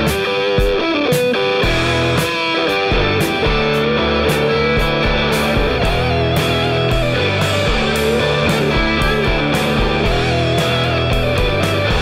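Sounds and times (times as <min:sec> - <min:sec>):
rock song with electric guitar: 0:00.0 - 0:12.0.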